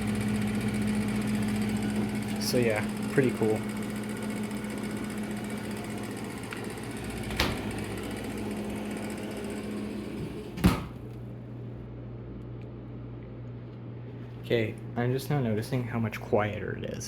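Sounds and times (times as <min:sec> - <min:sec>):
refrigerator compressor humming: 0:00.0 - 0:17.0.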